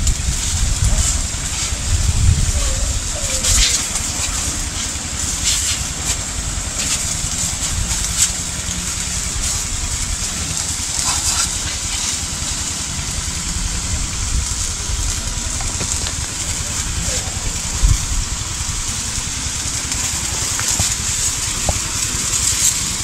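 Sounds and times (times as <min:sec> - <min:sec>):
small engine running: 0:00.0 - 0:23.0
water spray hissing: 0:00.0 - 0:23.0.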